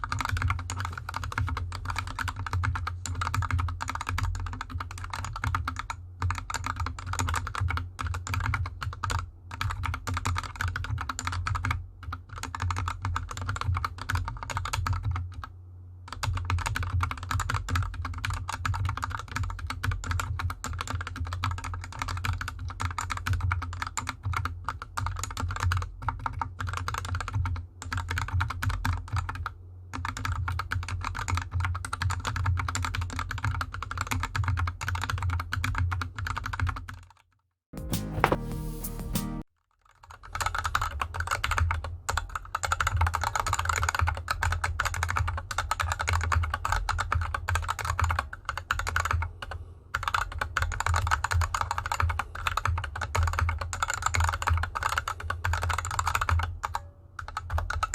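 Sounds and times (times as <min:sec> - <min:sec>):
fast typing on mechanical keyboard: 0:00.0 - 0:37.3, 0:39.8 - 0:57.9.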